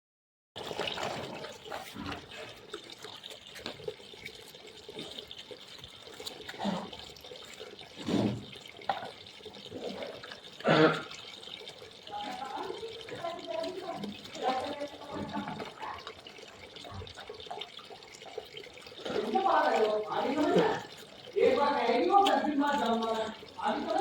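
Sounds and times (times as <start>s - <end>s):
water running and splashing: 0.6s - 24.0s.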